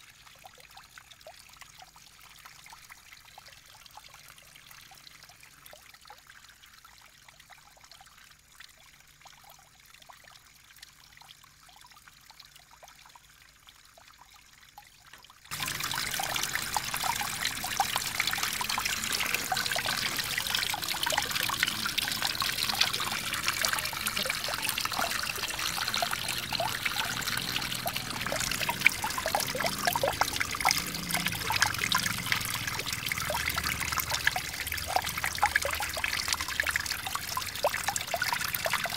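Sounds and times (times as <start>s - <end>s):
fountain water trickling and splashing: 0.0s - 38.9s.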